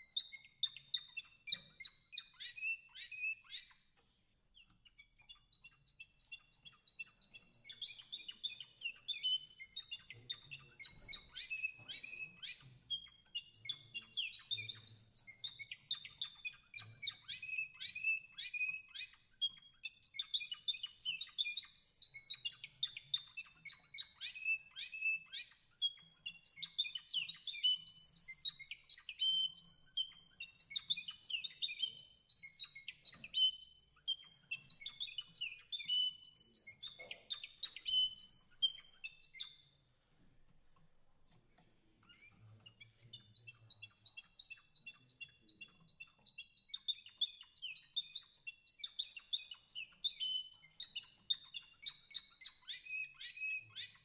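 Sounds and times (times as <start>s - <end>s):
songbirds singing: 0.0s - 39.7s, 42.0s - 54.0s.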